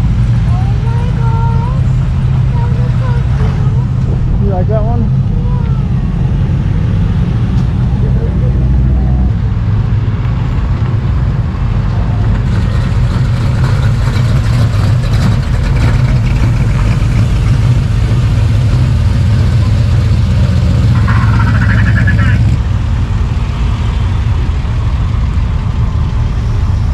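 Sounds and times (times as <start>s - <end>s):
car engine running: 0.0s - 10.5s, 11.4s - 26.9s.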